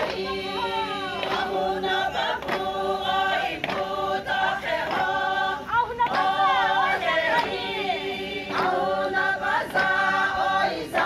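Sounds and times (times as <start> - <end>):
group of voices chanting: 0.0 - 11.0.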